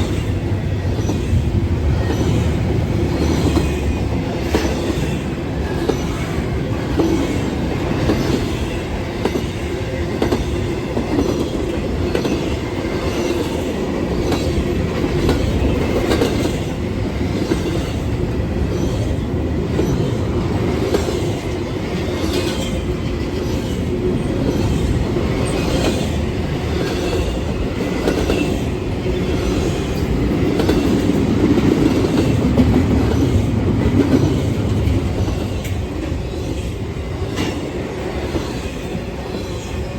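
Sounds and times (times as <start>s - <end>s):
freight train cars rumbling past: 0.0s - 39.9s.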